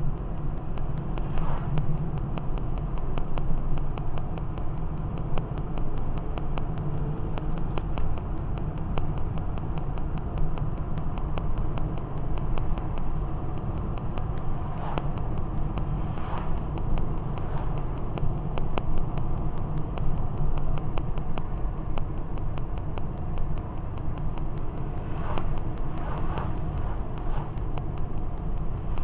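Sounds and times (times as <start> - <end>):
car driving heard from cabin: 0.0 - 29.0.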